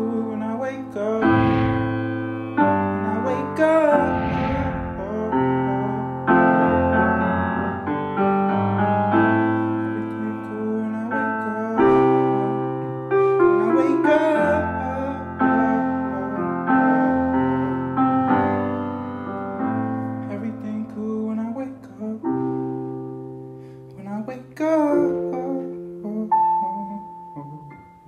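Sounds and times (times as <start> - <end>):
piano chords ringing: 0.0 - 28.0.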